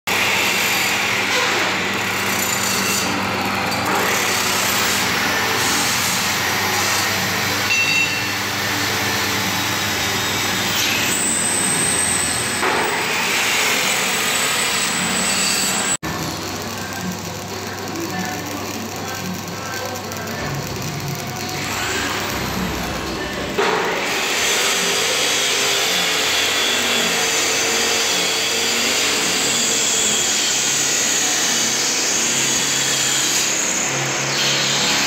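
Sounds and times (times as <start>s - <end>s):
electric grinder grinding metal: 0.1s - 35.0s.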